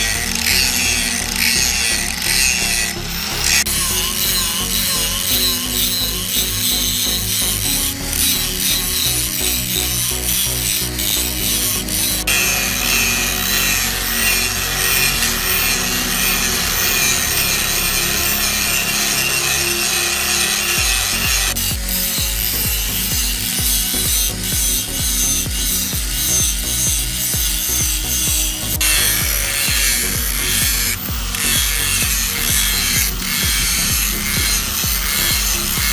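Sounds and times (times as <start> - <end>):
angle grinder grinding metal: 0.0 - 35.9.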